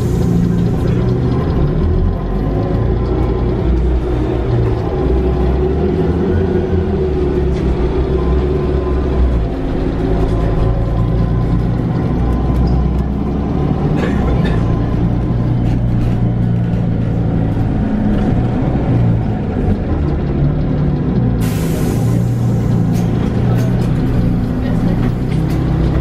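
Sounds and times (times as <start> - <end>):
bus engine drone: 0.0 - 26.0
road and body noise: 0.0 - 26.0.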